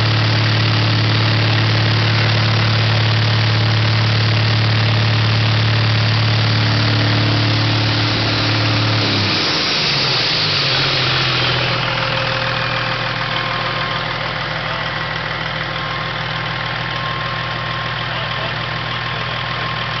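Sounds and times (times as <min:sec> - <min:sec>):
diesel engine idling: 0:00.0 - 0:20.0
turbocharger whine: 0:00.0 - 0:20.0.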